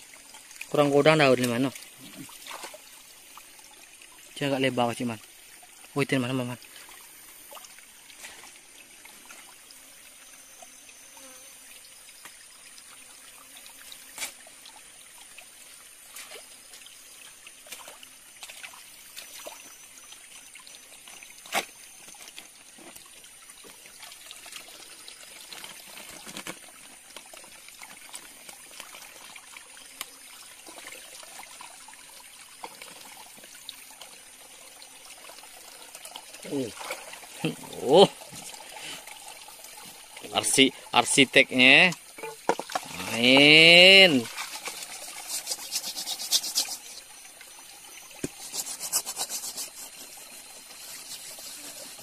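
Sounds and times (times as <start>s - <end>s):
water trickling: 0.0s - 52.0s.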